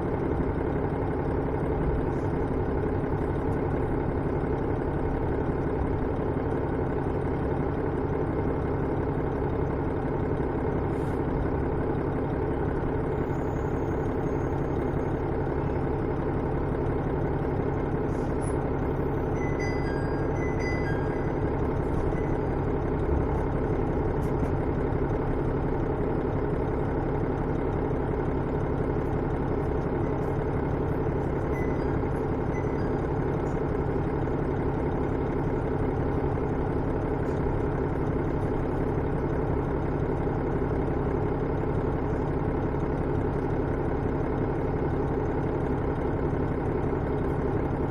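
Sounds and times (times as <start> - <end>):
diesel railcar running inside cabin: 0.0 - 47.9.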